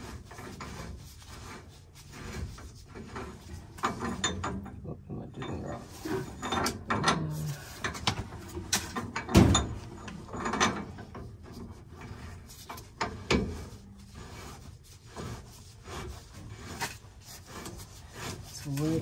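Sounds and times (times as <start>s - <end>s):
metal pipe fittings scraping: 0.0s - 19.0s.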